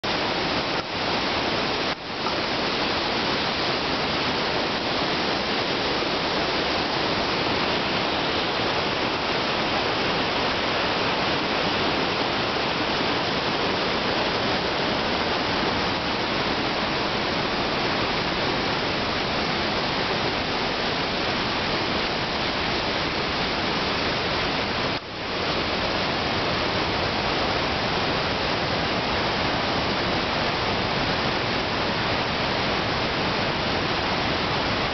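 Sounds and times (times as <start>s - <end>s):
river rapids roaring: 0.0s - 34.9s.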